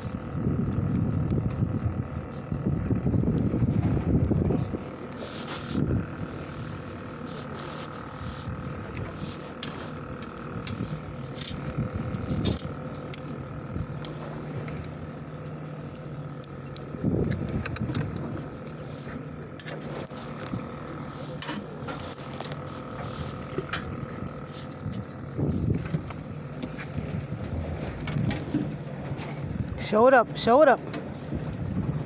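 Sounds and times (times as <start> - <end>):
wind buffeting microphone: 0.0 - 15.1, 16.5 - 18.8, 21.9 - 30.0, 31.0 - 32.0
boat engine humming: 0.0 - 32.0.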